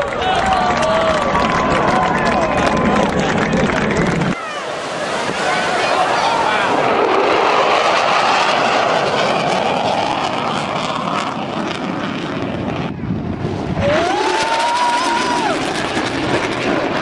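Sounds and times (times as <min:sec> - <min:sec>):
fighter jets roaring overhead: 0:00.0 - 0:17.0
rising jet whine: 0:00.0 - 0:17.0.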